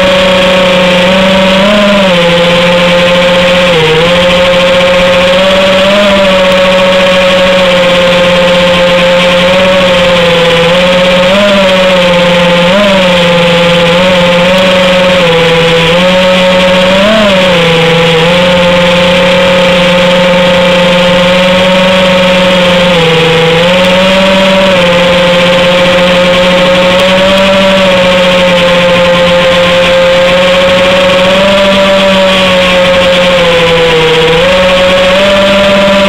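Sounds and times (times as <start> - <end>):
quadcopter motors and propellers: 0.0 - 36.0.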